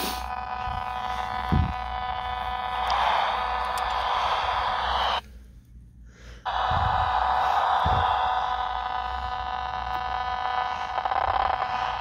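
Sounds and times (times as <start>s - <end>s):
tv speaker buzz with hiss: 0.0s - 5.2s, 6.4s - 12.0s.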